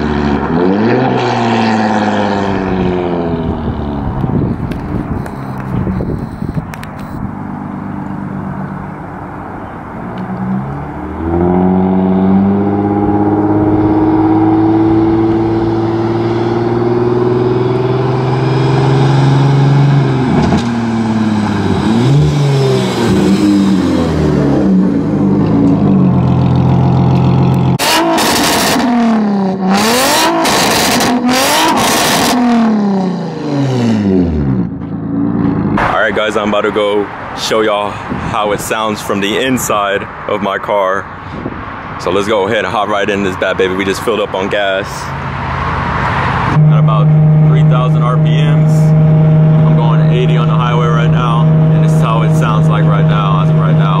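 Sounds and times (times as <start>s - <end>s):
car engine revving: 0.0s - 37.1s, 42.9s - 54.0s.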